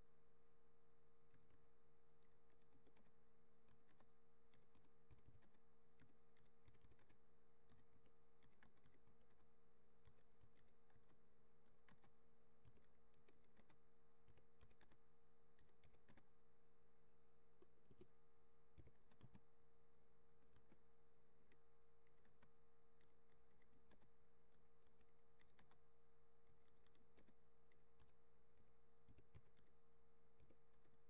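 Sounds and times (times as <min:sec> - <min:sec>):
low electrical hum: 0:00.0 - 0:31.0
faint keyboard typing: 0:00.9 - 0:31.0.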